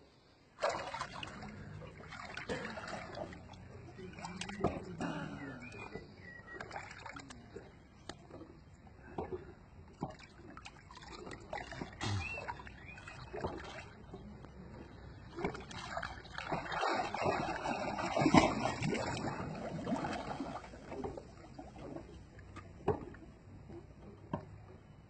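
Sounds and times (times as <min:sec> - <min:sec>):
pool water sloshing and splashing: 0:00.5 - 0:25.0.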